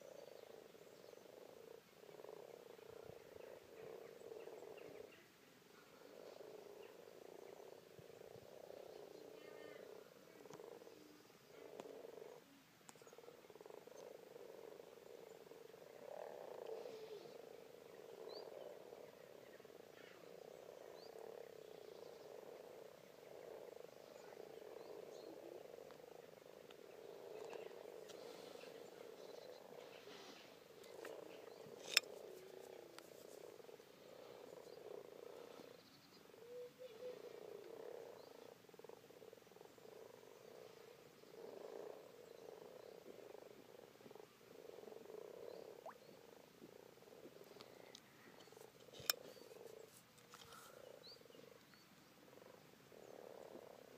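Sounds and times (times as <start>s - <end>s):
frogs croaking in chorus: 0.0s - 53.9s.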